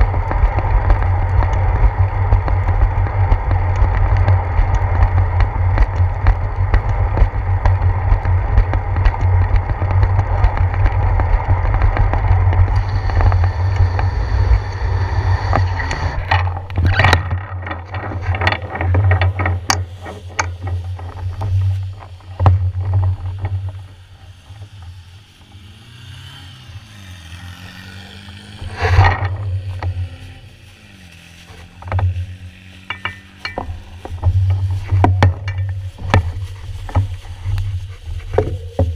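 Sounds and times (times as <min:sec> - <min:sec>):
wind buffeting camera: 0:00.0 - 0:25.2, 0:27.5 - 0:38.9
bicycle rattling over bumps: 0:00.0 - 0:38.9.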